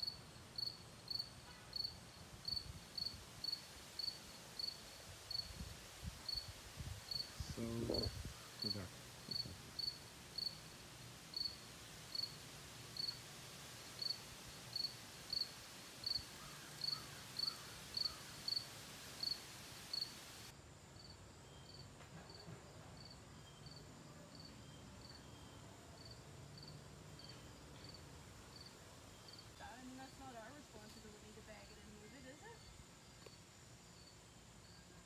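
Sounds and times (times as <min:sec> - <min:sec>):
insect chirping: 0:00.0 - 0:22.4, 0:23.0 - 0:35.0.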